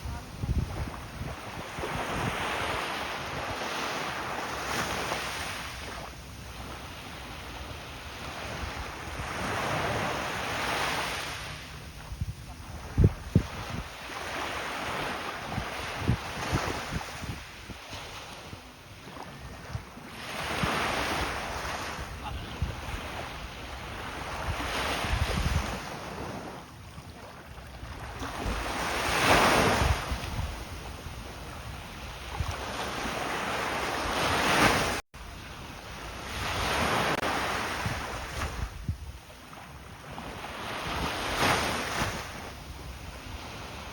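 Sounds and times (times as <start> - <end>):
sea waves breaking: 0.0 - 43.9
wind rumbling on microphone: 0.0 - 43.9.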